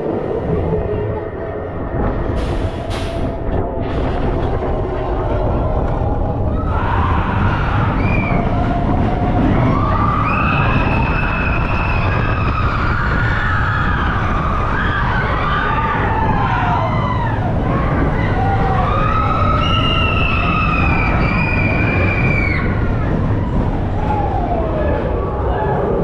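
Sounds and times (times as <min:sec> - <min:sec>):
roller coaster train moving: 0:00.0 - 0:26.0
wind: 0:00.0 - 0:26.0.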